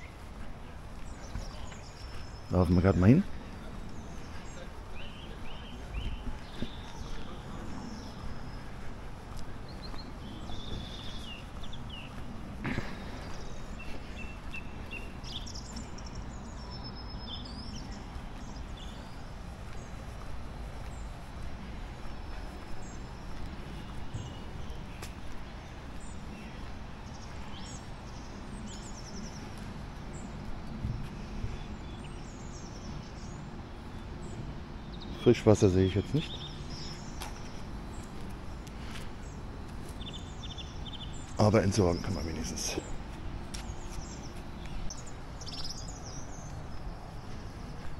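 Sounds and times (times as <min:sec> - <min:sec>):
low background noise: 0:00.0 - 0:47.9
small birds chirping: 0:00.0 - 0:47.9.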